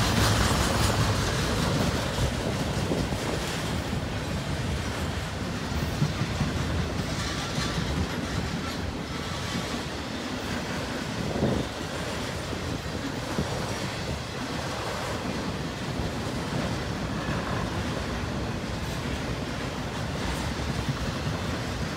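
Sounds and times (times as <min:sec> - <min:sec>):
train wheels rumbling on rail: 0:00.0 - 0:21.9
wheels clicking over rail joints: 0:00.0 - 0:21.9.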